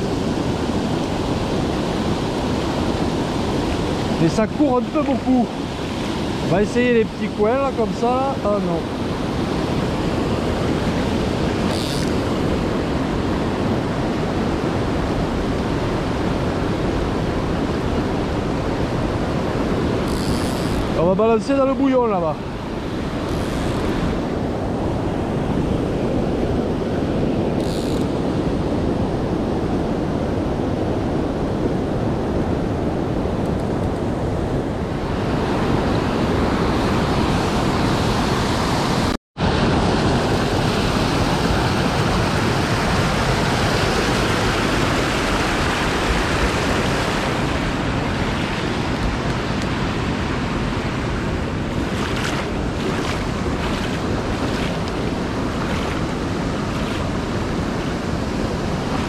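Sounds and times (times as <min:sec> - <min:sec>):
river water rushing over rapids: 0:00.0 - 0:29.8, 0:34.9 - 0:59.0.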